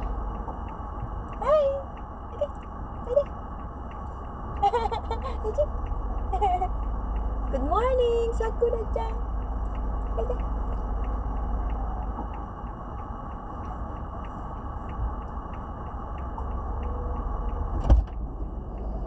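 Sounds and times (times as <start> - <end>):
car engine idling: 0.0 - 19.0
faint regular ticking: 0.0 - 19.0.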